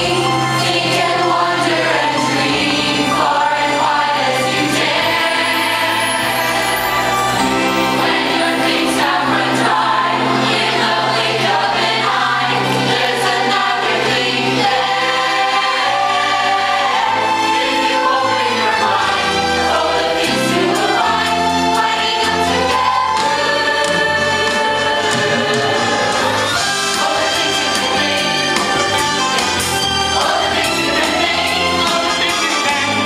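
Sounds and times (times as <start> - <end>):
cast singing as a choir: 0.0 - 33.0
instrumental accompaniment: 0.0 - 33.0.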